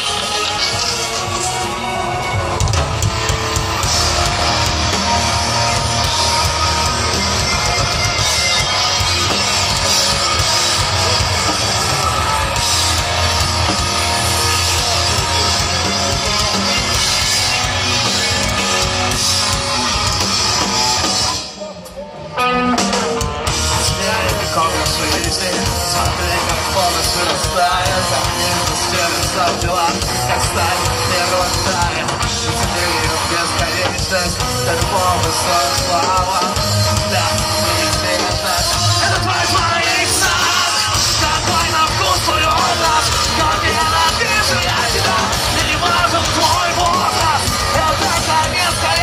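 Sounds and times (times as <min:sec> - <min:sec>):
live rock band playing loud: 0:00.0 - 0:49.0.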